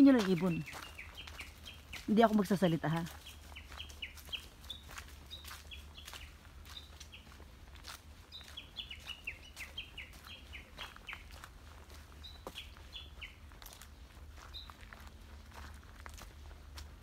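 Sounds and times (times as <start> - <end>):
birds chirping: 0.0 - 15.4.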